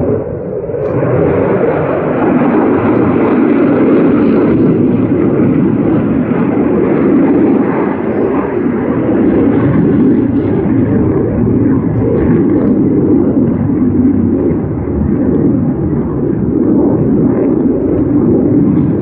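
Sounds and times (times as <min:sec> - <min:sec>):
fighter jet engines roaring: 0:00.0 - 0:19.0.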